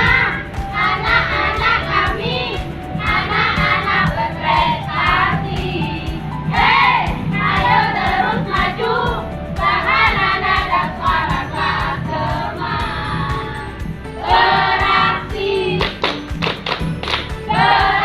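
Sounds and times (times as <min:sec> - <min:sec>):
children singing: 0:00.0 - 0:13.6, 0:14.2 - 0:15.9, 0:17.5 - 0:18.0
backing music with steady beat: 0:00.0 - 0:18.0.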